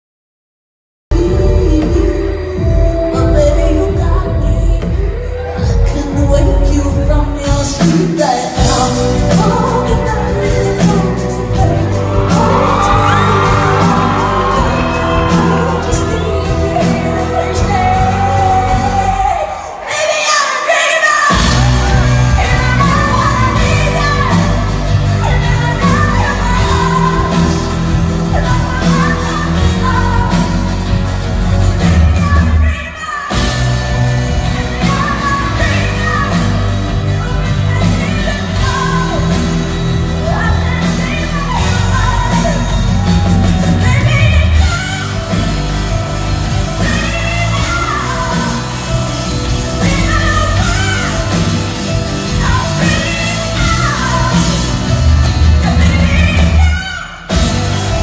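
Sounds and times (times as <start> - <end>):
live rock band: 1.1 - 58.0
person singing: 1.1 - 58.0.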